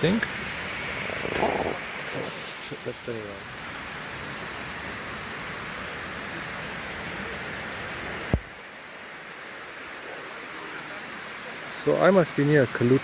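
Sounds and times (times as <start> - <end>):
rainforest insects droning: 0.0 - 13.0.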